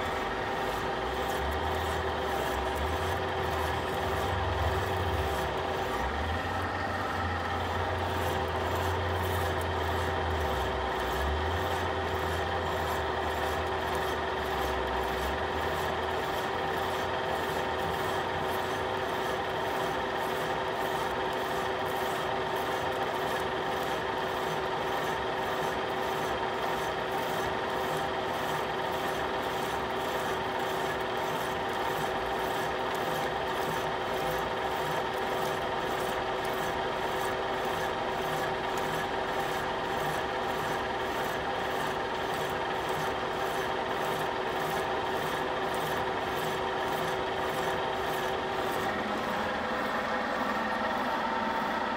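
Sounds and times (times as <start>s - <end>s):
drill gear hum: 0.0s - 51.9s
boring bit scraping metal: 0.5s - 6.2s, 7.6s - 49.6s.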